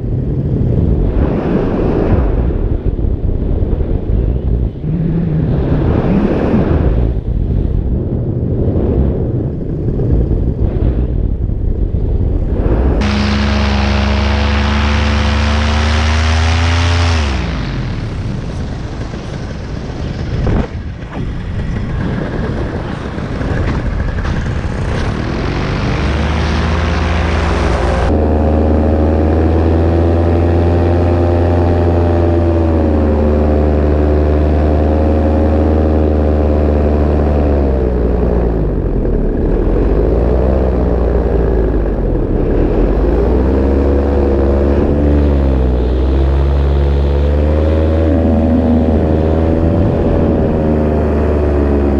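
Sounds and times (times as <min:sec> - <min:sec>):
paramotor engine hum: 0:00.0 - 0:51.9
wind rushing over microphone: 0:00.0 - 0:51.9.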